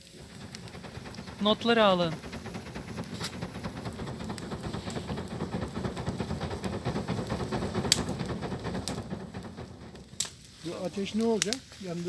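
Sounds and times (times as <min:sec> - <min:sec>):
fire roaring: 0:00.0 - 0:11.8
fire cracking: 0:00.0 - 0:12.0.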